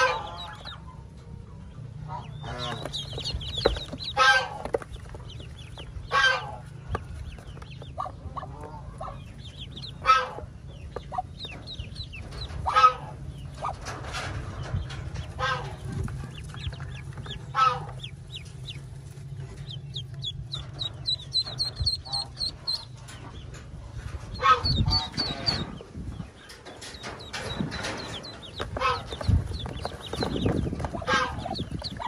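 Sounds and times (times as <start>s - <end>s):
ducklings peeping: 0.0s - 32.0s
hen clucking: 0.0s - 32.0s.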